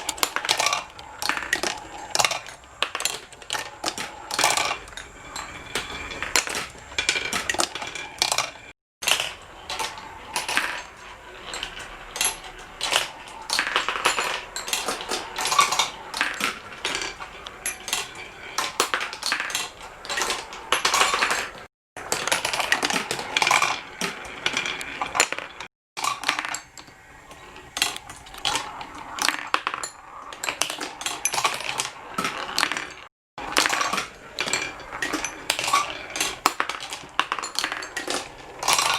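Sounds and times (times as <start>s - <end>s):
marbles clattering along tracks: 0.0s - 38.9s.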